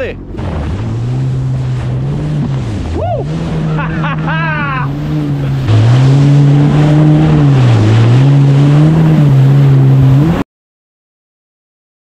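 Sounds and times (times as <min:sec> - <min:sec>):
jet ski engine running: 0:00.0 - 0:10.4
water and wind noise: 0:00.0 - 0:10.4.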